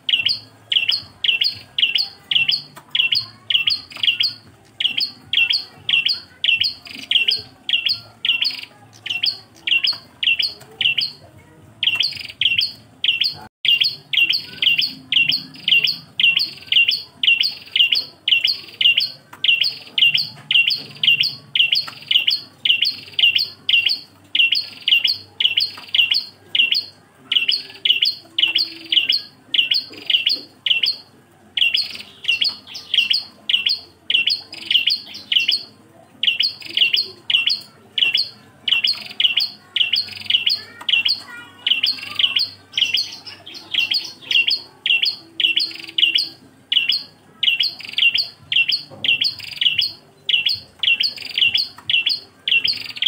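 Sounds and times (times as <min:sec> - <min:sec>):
bird singing high chirps: 0:00.0 - 0:53.0.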